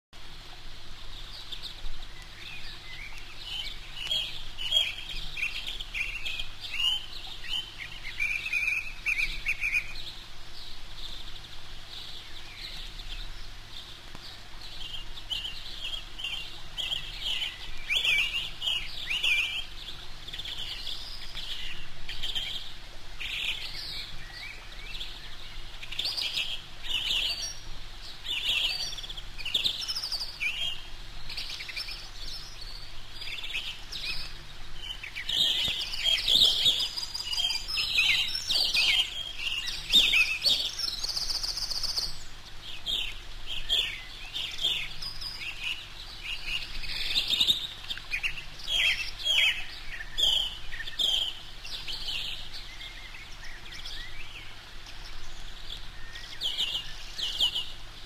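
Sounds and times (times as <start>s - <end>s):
small birds chirping: 1.0s - 58.0s.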